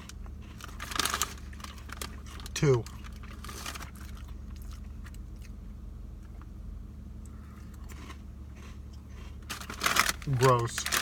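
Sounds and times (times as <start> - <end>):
crackly rustling: 0.0 - 5.6, 7.6 - 11.0
low electrical hum: 0.0 - 11.0.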